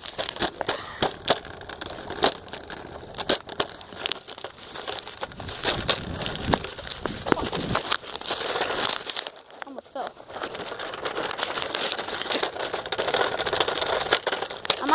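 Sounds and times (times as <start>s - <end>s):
kick scooter rattling and clicking: 0.0s - 14.9s.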